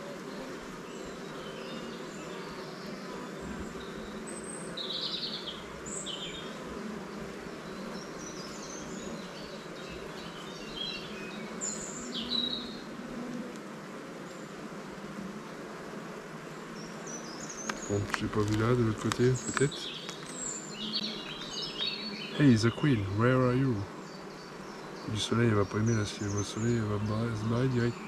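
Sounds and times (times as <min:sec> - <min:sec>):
honeybee colony humming: 0:00.0 - 0:28.0.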